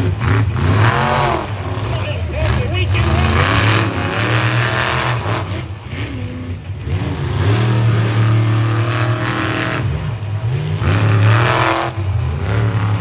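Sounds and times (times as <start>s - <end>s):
vehicle engines revving: 0.0s - 13.0s.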